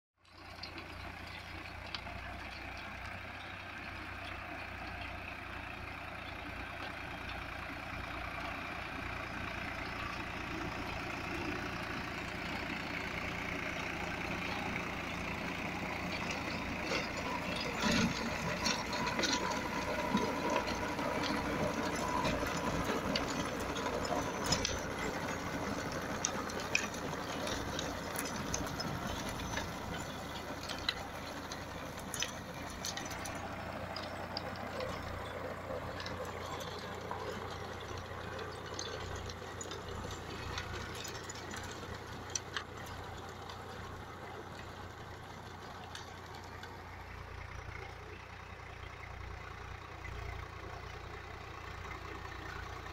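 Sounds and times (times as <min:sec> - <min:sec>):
tractor diesel engine under load: 0:00.2 - 0:52.9.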